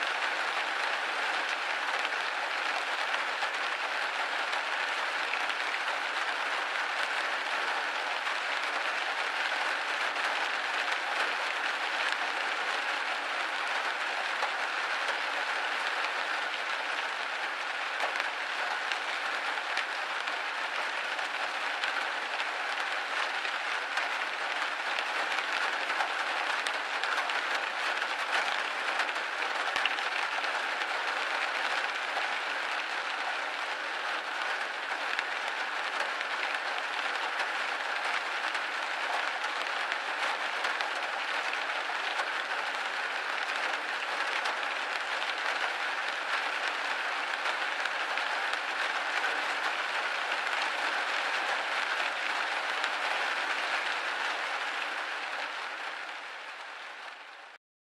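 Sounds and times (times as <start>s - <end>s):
rain pattering on a window: 0.0s - 57.6s.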